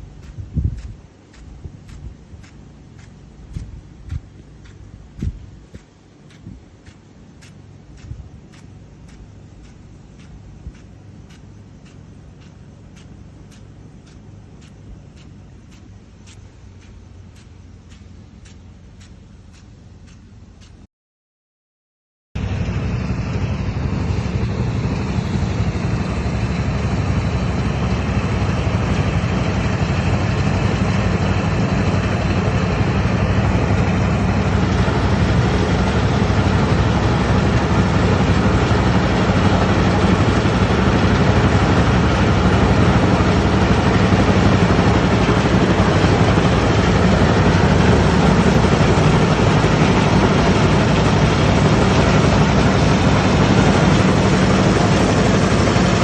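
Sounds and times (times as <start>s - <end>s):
motor engine running: 0.0s - 20.8s, 22.4s - 56.0s.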